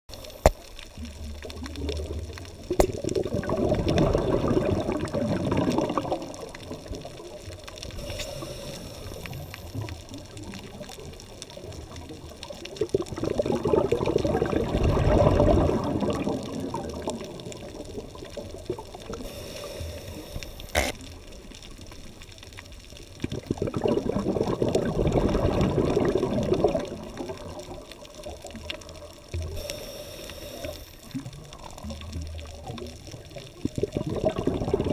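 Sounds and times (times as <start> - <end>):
underwater exhaled bubbles: 0.1 - 34.9
underwater water noise: 0.1 - 34.9.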